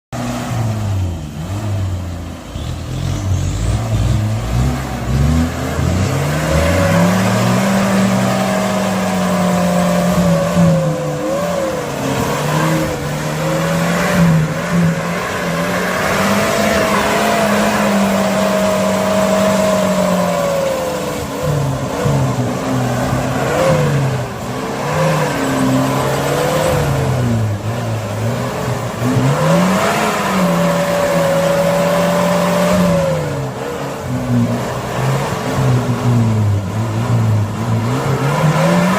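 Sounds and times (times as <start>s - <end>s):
off-road vehicle engine revving: 0.1s - 38.9s.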